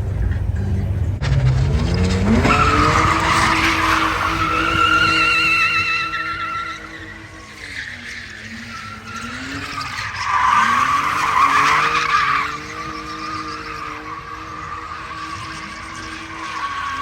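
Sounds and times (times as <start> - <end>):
car engine revving: 0.0 - 17.0
tyres screeching: 1.2 - 17.0.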